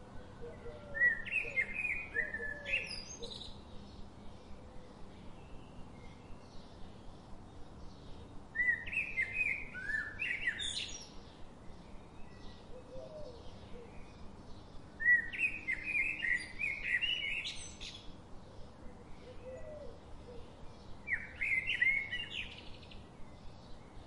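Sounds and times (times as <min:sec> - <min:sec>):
low steady hiss: 0:00.0 - 0:24.0
bird chirping: 0:00.5 - 0:24.0.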